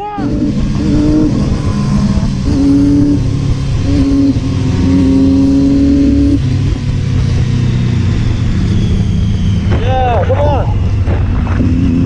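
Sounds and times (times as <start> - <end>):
low wind rumble: 0.0 - 12.0
motorcycle engine running: 0.0 - 12.0.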